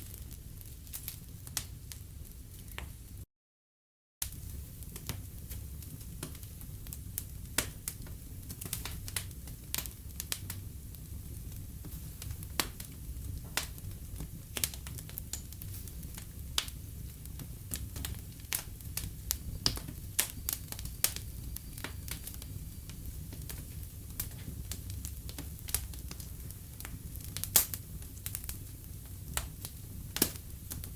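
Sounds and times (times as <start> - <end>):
wood fire crackling and popping: 0.0 - 3.1, 4.2 - 30.9.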